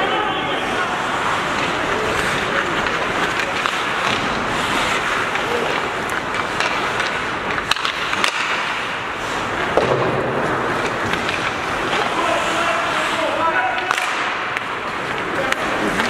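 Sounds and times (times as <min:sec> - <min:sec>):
skate blades scraping ice: 0:00.0 - 0:16.0
hockey sticks clacking on puck: 0:00.1 - 0:16.0.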